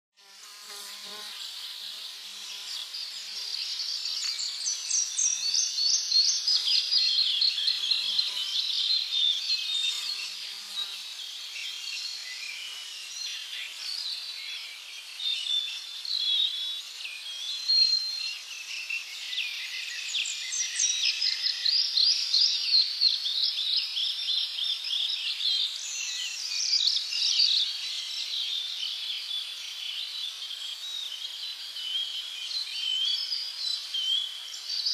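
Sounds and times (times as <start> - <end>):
birds chirping in chorus: 1.0 - 34.9.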